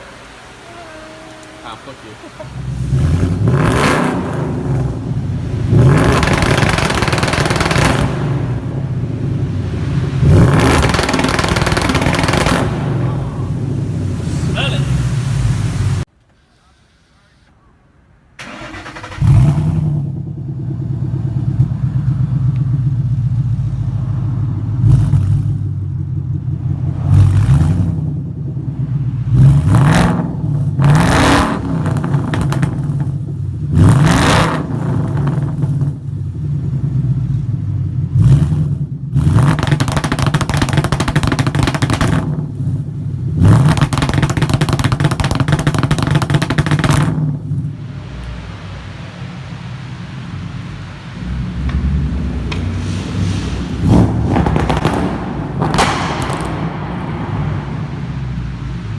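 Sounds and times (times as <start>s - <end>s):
car engine idling and revving: 0.0s - 16.2s, 17.2s - 58.9s.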